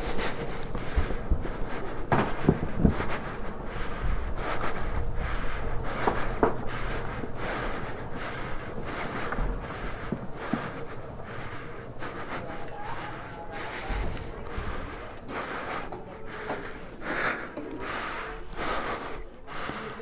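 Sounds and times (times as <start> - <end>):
wind rumbling on microphone: 0.0 - 16.8.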